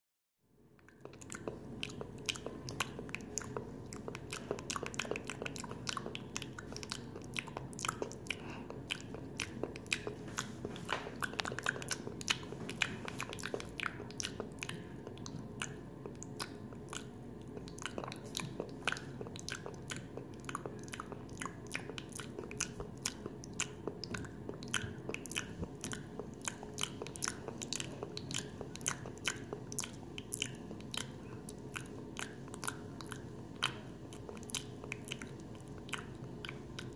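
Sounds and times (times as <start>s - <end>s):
person chewing crunchy food: 0.8s - 36.9s.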